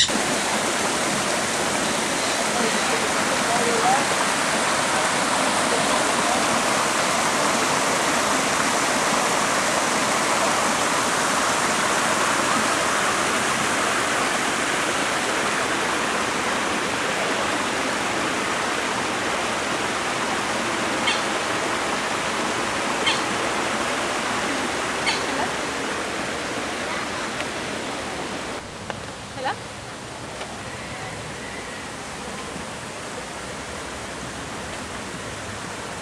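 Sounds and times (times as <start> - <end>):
stream rushing over stones: 0.0 - 36.0.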